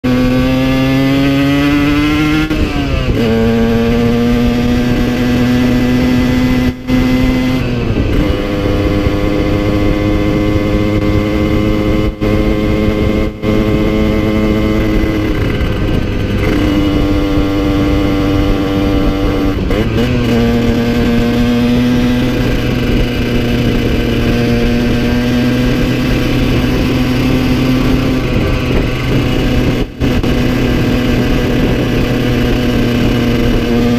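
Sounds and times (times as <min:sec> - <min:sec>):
two-stroke motorcycle engine: 0:00.0 - 0:33.9.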